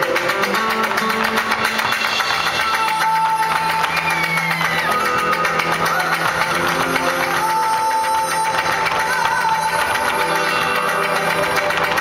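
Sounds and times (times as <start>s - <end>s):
rapid percussive tapping: 0.0s - 12.0s.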